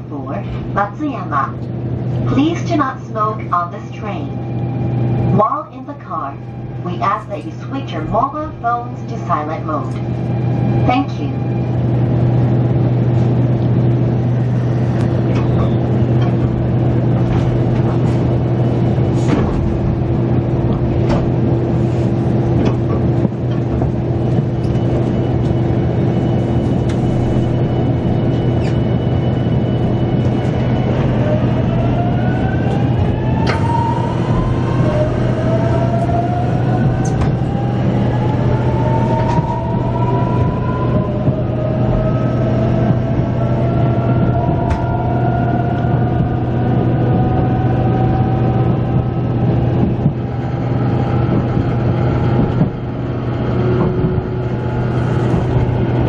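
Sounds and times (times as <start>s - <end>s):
train interior low hum: 0.0s - 56.0s.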